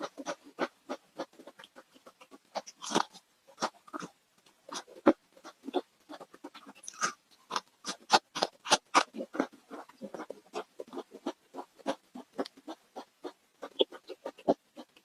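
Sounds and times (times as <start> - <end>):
chewing crispy fried food: 0.0 - 15.0.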